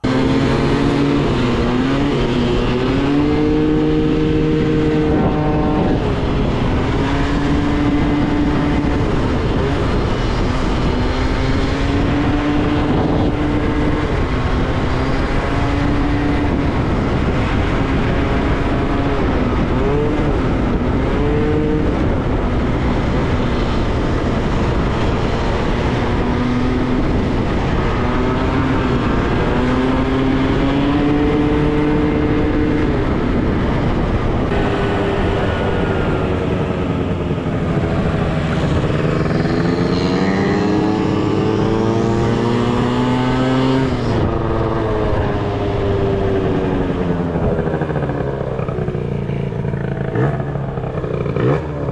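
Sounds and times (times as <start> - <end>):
moped engine running: 0.0 - 51.9
wind on microphone: 0.0 - 51.9.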